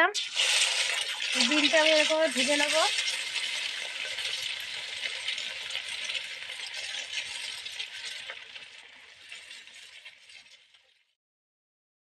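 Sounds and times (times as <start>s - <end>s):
egg sizzling in hot oil: 0.0s - 11.2s
metal ladle scraping pan: 0.2s - 10.9s.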